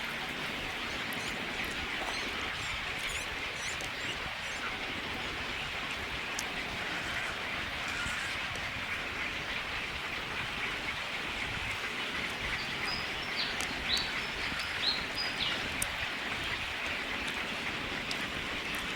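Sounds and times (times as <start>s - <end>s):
steady outdoor hiss: 0.0s - 18.9s.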